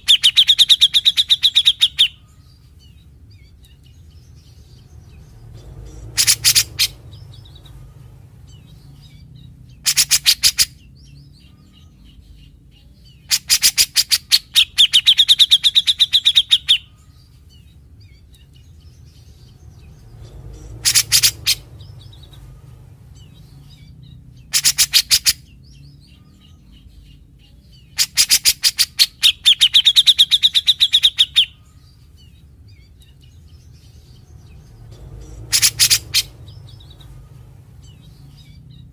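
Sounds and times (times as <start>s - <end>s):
bird singing harsh rattling notes: 0.0s - 38.9s
low steady background hum: 0.0s - 38.9s.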